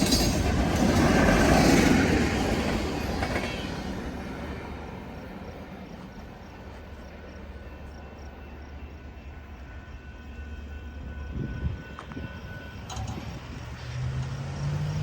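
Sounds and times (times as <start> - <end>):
freight train rumbling: 0.0 - 15.0
train knocks and clanks: 0.0 - 15.0.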